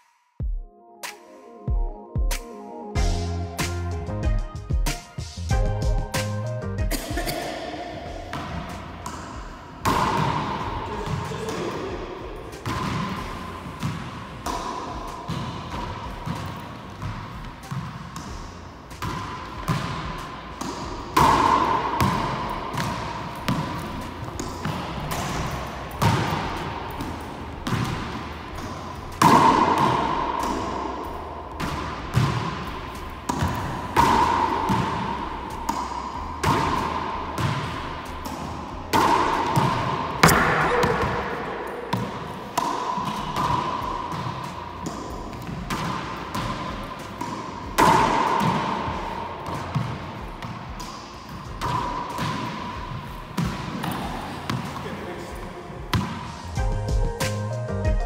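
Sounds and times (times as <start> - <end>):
racquetball cracks echoing: 6.9 - 56.6.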